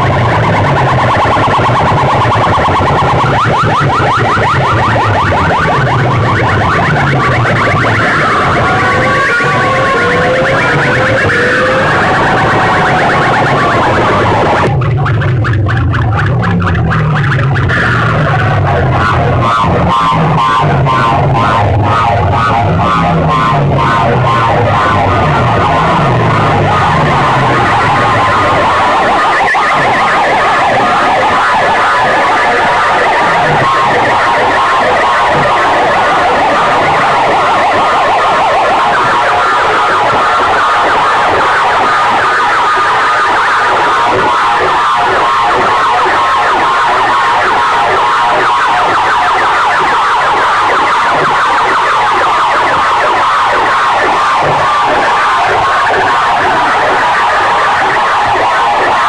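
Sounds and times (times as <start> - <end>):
distorted siren-like wailing: 0.0 - 59.0.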